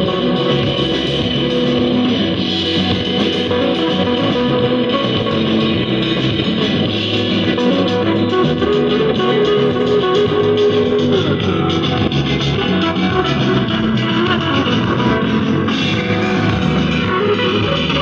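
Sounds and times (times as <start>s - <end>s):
guitar song through loudspeaker: 0.0s - 18.0s.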